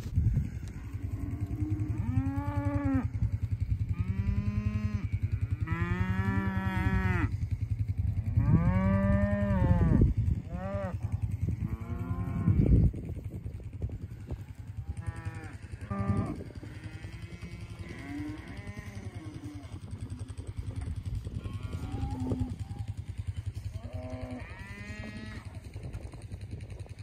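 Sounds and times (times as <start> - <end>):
low rumble: 0.0 - 27.0
cattle mooing: 0.4 - 12.8, 14.1 - 25.7.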